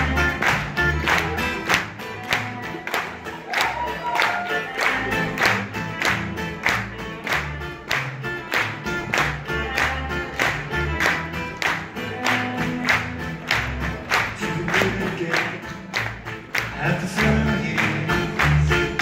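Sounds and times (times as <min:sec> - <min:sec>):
double bass: 0:00.0 - 0:19.0
strummed acoustic guitars: 0:00.0 - 0:19.0.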